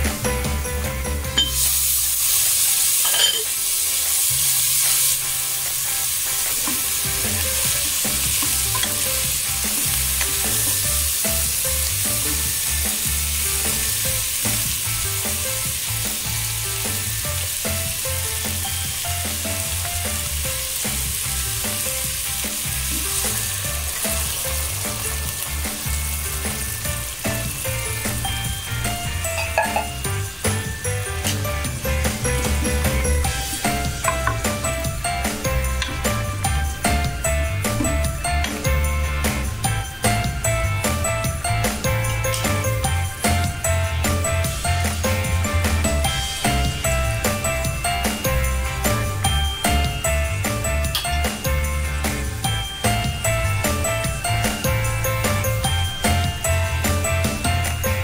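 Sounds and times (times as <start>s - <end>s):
fish and onions sizzling in a pan: 1.2s - 58.0s.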